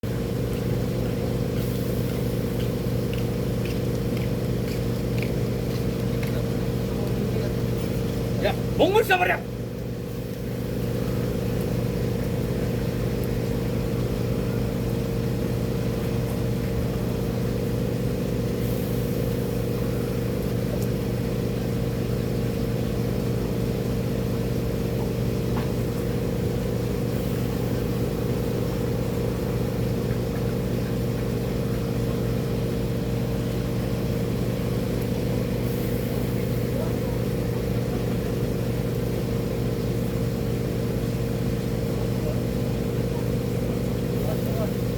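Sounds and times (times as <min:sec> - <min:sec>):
engine droning steadily: 0:00.0 - 0:44.9.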